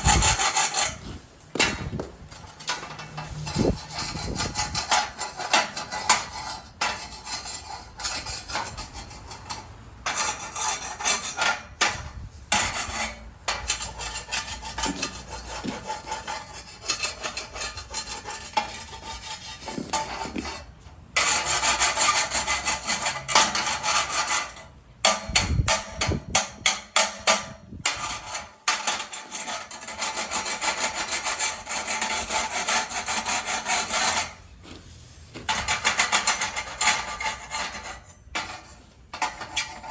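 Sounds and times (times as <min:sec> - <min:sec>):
hand scraping a hard surface: 0:00.0 - 0:39.9.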